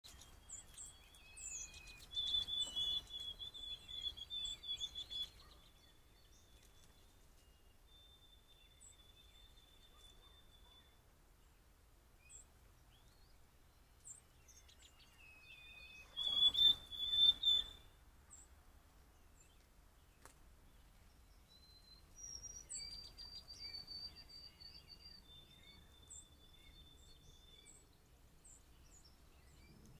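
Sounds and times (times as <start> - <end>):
sparrows singing whistled songs: 0.0 - 11.0, 12.2 - 18.5, 19.2 - 30.0
small birds chipping and tweeting: 0.0 - 30.0.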